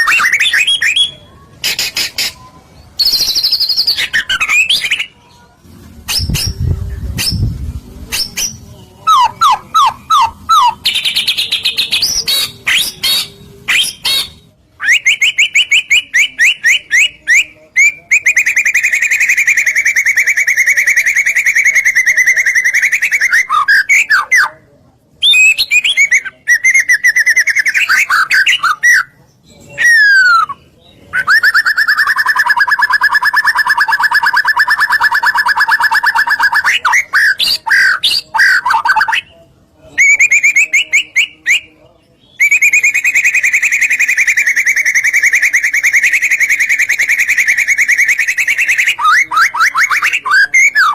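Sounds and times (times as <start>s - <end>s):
bird singing whistles and trills: 0.0s - 5.1s, 6.1s - 24.5s, 25.2s - 39.3s, 40.0s - 50.9s.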